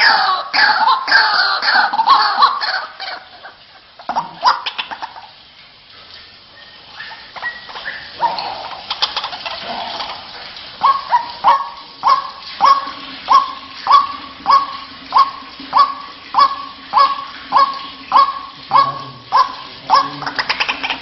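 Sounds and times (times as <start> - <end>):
waterhen call: 0.0 - 21.0.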